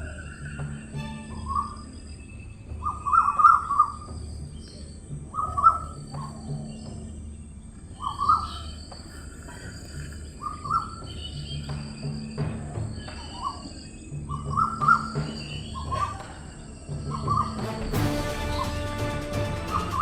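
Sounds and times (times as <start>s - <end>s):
bird calling: 0.0s - 17.8s.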